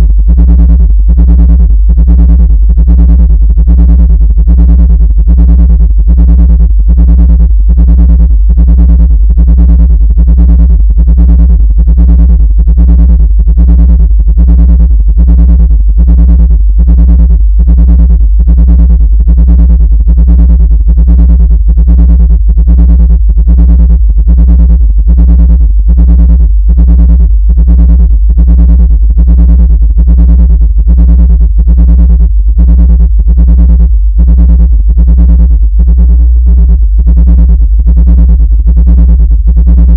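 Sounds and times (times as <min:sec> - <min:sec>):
pulsing synthesized bass tone: 0:00.0 - 0:39.9.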